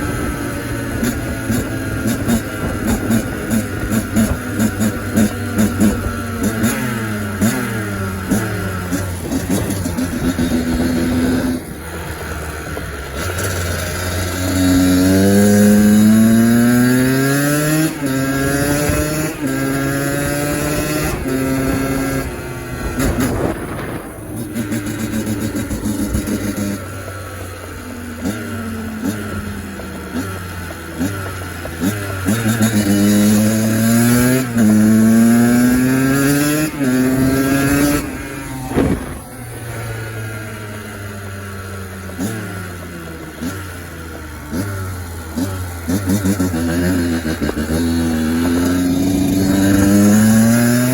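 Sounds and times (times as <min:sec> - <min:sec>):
two-stroke motorcycle engine accelerating: 0:00.0 - 0:50.9.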